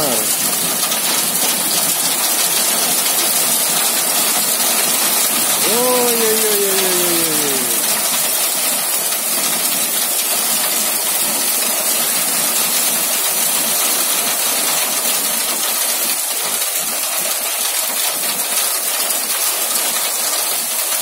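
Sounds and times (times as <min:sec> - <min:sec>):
hail and heavy rain pelting: 0:00.0 - 0:07.9, 0:09.2 - 0:20.9.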